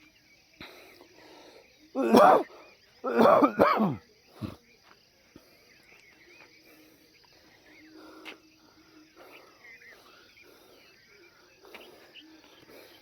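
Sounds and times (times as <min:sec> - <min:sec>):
faint chirps: 0:00.0 - 0:13.0.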